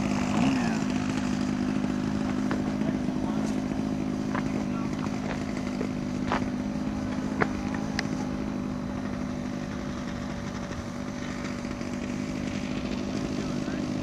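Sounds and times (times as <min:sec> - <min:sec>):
model aircraft engine idling: 0:00.0 - 0:14.0.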